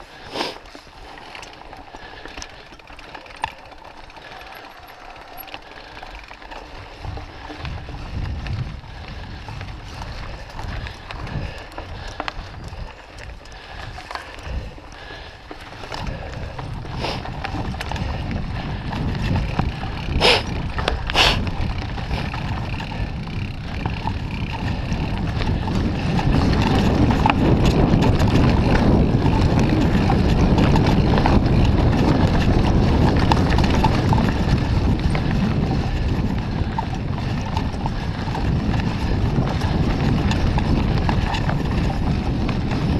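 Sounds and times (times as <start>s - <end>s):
bike rattling over bumps: 0.0s - 42.9s
wind on microphone: 6.5s - 42.9s.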